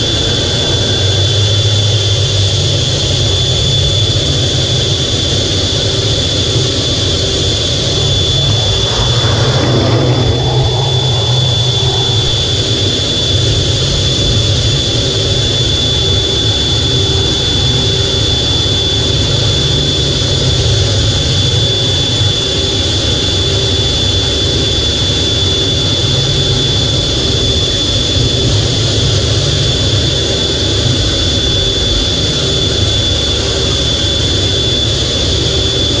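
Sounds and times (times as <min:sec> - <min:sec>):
high-pitched turbine whine: 0:00.0 - 0:36.0
jet engines idling: 0:00.0 - 0:36.0.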